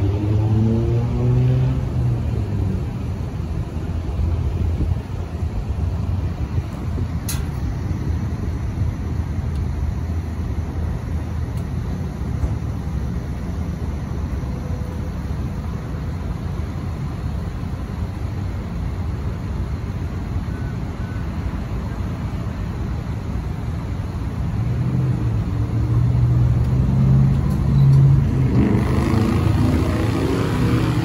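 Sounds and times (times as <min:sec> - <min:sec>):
diesel excavator engines rumbling: 0:00.0 - 0:31.0
highway traffic: 0:00.0 - 0:31.0.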